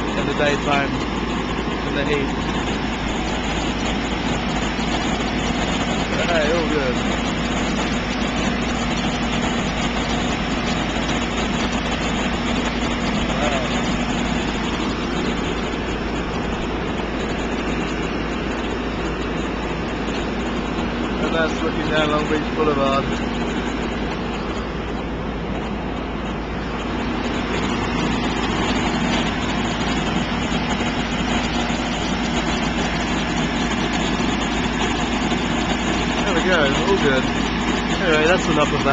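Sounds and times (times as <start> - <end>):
broad rushing noise: 0.0 - 38.9
fire engine drone: 0.0 - 38.9
pump hum: 0.0 - 38.9.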